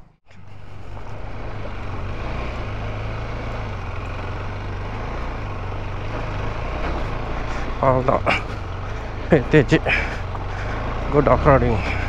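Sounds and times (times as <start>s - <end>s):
motorcycle engine drone: 0.0s - 12.0s
road and wind noise: 0.0s - 12.0s.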